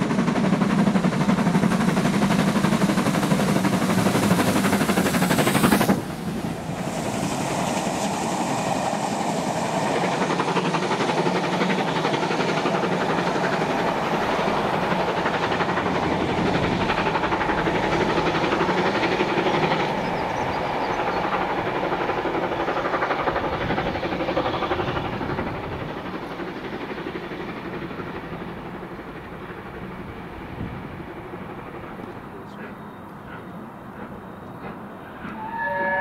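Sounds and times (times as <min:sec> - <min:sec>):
train wheels clattering: 0:00.0 - 0:36.0.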